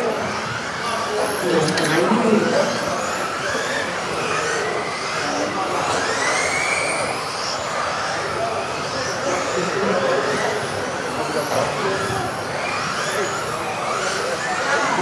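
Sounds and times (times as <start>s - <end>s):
electric rc car motors whining: 0.0s - 15.0s.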